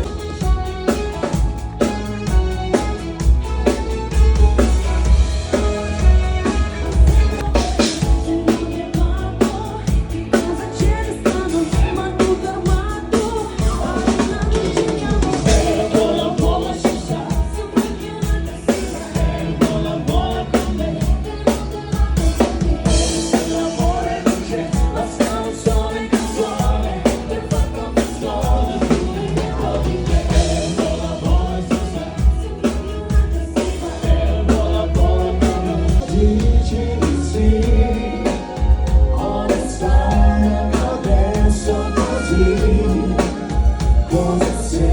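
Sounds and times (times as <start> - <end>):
drum kit beat: 0.0 - 44.9
person singing: 6.0 - 44.9.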